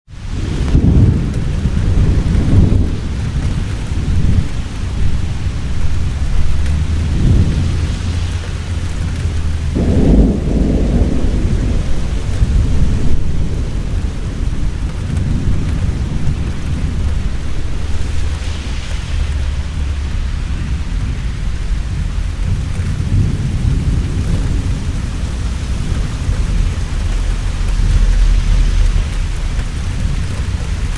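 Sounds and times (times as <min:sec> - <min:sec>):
heavy rain falling: 0:00.1 - 0:30.9
thunder rumbling: 0:00.1 - 0:30.9.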